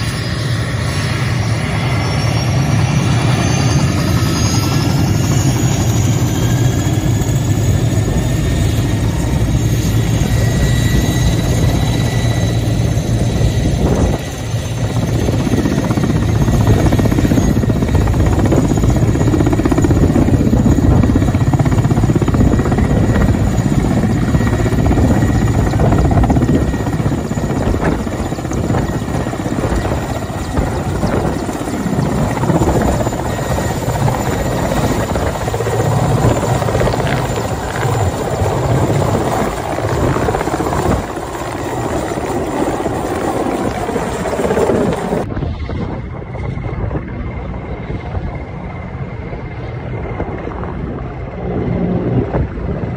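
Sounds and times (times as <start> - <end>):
helicopter rotor noise: 0.0 - 52.9
high turbine whine: 0.0 - 52.9.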